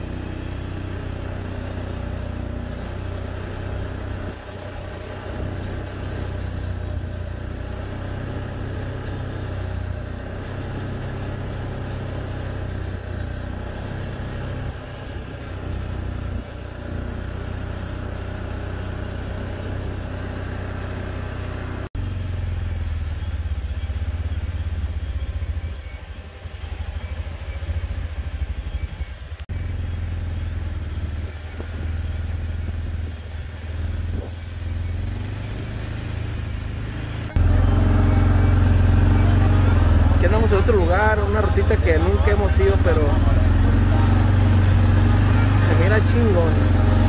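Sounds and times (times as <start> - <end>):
quad engine running: 0.0 - 47.0.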